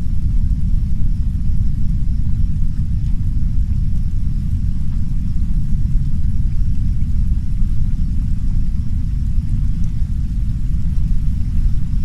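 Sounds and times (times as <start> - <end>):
deep brown noise rumble: 0.0 - 12.0
soft rain hiss: 0.0 - 12.0.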